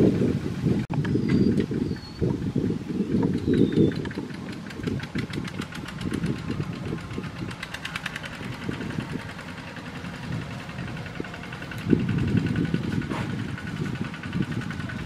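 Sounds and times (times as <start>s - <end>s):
diesel engine idling with knocking: 2.5s - 15.0s.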